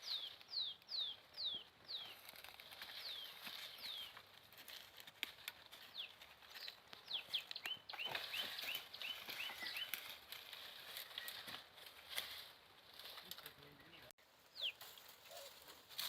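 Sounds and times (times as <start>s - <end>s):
small birds chirping: 0.0s - 11.8s, 13.2s - 15.7s.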